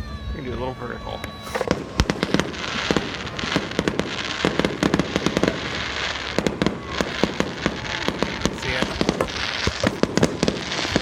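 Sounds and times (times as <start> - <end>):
fireworks bangs and crackles: 0.2 - 11.0
rumble of firework bursts: 1.1 - 11.0.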